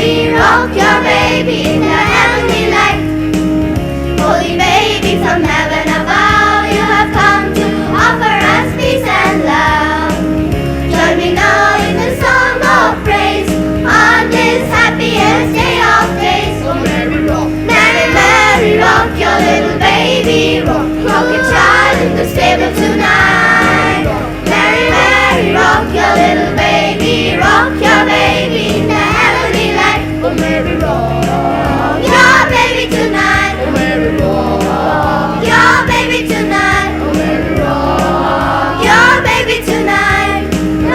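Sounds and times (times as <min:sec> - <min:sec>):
choir singing in harmony: 0:00.0 - 0:03.2, 0:04.1 - 0:40.9
held bass notes: 0:00.0 - 0:40.9.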